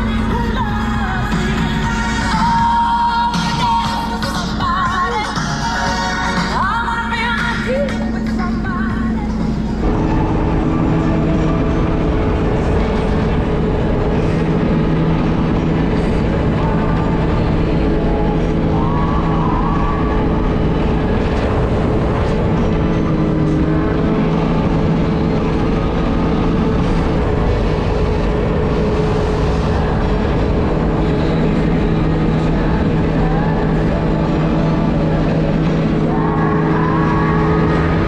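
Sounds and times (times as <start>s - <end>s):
broad rushing noise: 0.0s - 38.0s
jet ski engine running: 0.0s - 38.0s.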